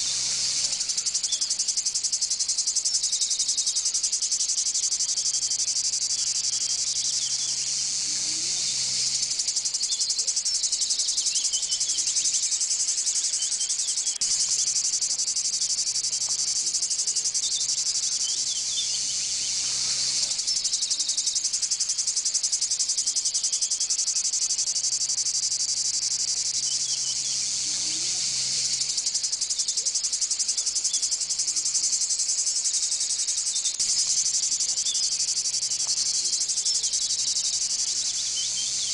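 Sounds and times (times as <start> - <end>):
faint bird chirps: 0.0 - 38.9
insects buzzing chorus: 0.0 - 38.9.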